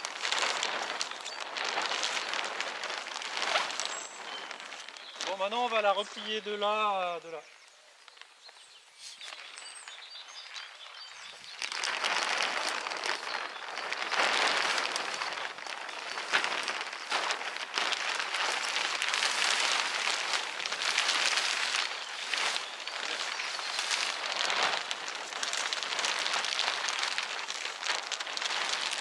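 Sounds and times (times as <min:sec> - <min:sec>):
plastic sheet rustling and crackling: 0:00.0 - 0:29.0
quiet outdoor ambience: 0:00.0 - 0:29.0.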